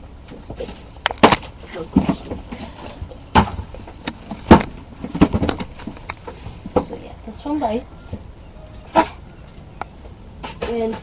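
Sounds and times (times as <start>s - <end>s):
faint rustling: 0.3s - 11.0s.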